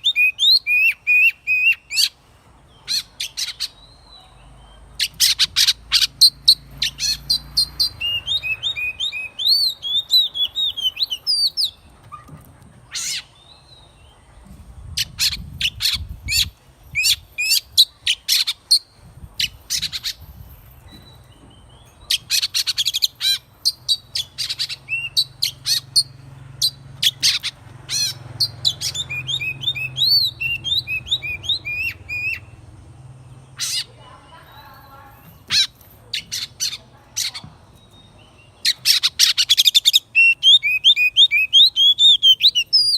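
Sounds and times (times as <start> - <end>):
bird singing: 0.0 - 42.9.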